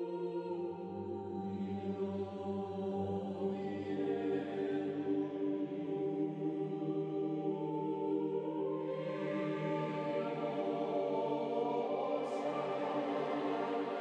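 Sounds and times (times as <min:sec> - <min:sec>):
slow choral music: 0:00.0 - 0:14.0.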